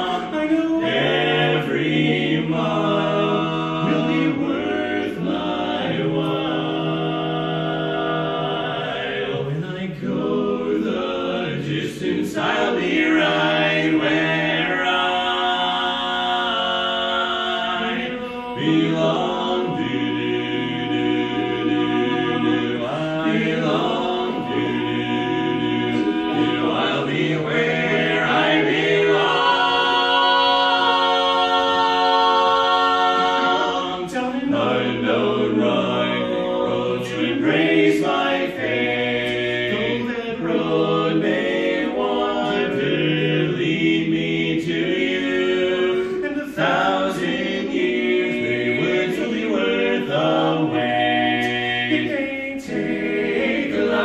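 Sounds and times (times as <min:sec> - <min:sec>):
male quartet singing a cappella: 0:00.0 - 0:54.0.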